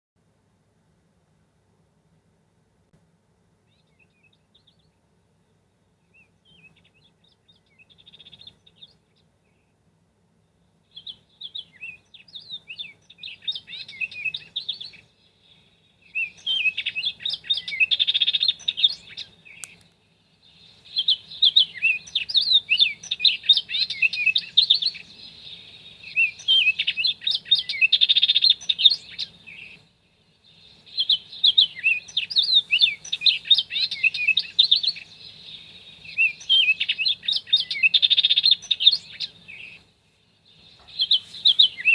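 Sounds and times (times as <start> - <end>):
small birds chirping: 3.5 - 41.9.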